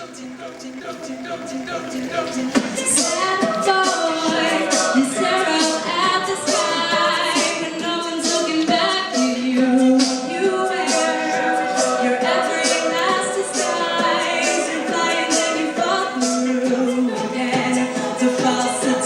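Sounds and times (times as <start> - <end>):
a cappella group singing: 0.0 - 19.0
beatboxing: 0.0 - 19.0.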